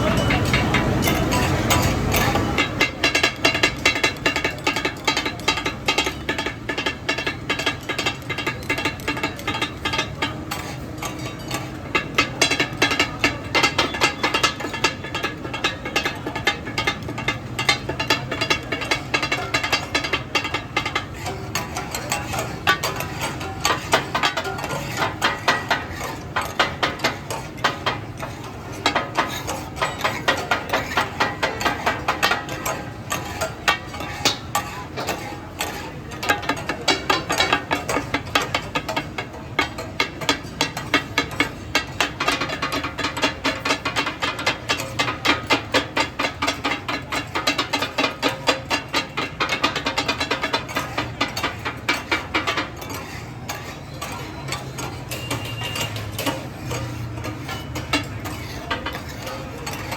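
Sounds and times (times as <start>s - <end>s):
metal spatulas clanging on griddle: 0.0s - 59.9s.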